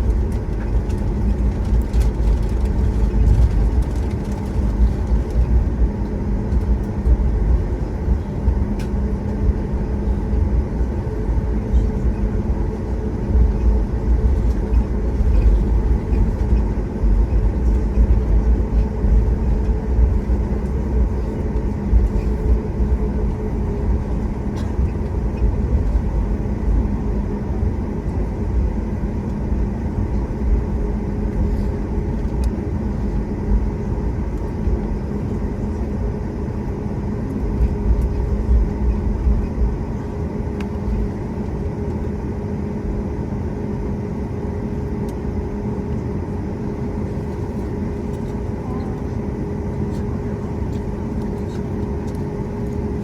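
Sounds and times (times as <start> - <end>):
airliner wheels rumbling on ground: 0.0 - 53.0
jet engines humming at idle: 0.0 - 53.0.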